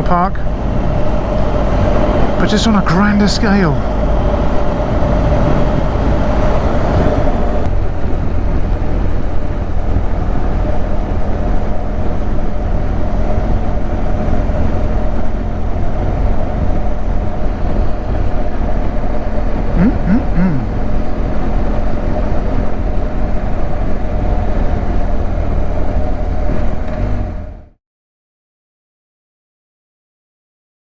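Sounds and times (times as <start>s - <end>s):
motorcycle engine drone: 0.0s - 27.8s
wind and road noise: 0.0s - 27.8s.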